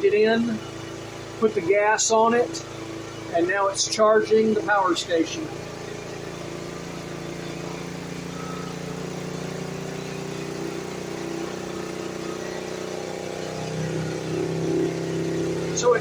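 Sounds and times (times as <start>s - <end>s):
generator running: 0.0s - 16.0s.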